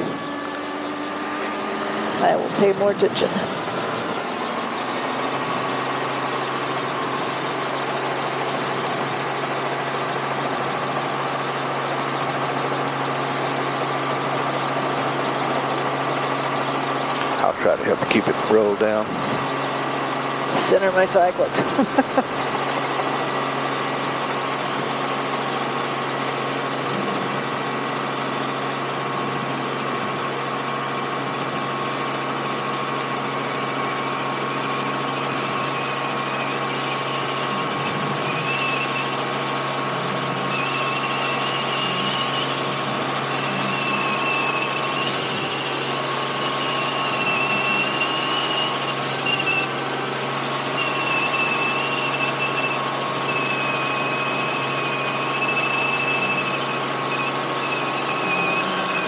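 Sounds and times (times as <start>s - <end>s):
helicopter engine and rotor: 0.0s - 59.0s.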